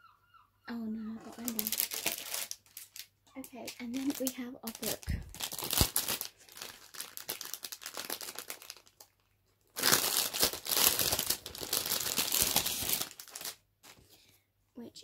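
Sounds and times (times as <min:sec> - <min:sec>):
wrapping paper crinkling: 0:01.3 - 0:14.3.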